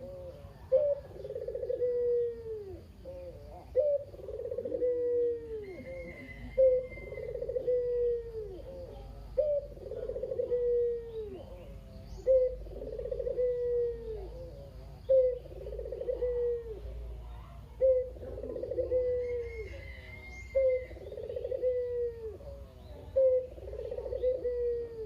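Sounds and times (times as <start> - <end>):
dove cooing: 0.0 - 25.0
faint bird chirps: 0.0 - 25.0.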